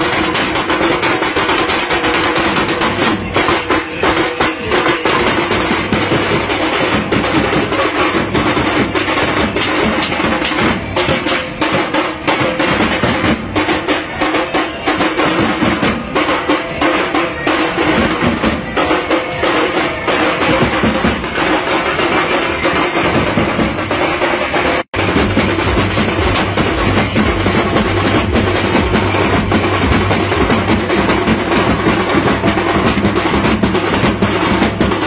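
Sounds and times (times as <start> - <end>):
street drum band playing: 0.0 - 35.0.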